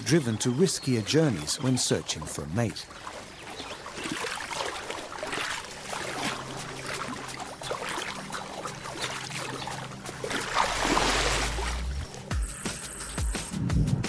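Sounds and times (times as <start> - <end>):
splashing water: 0.0 - 12.3.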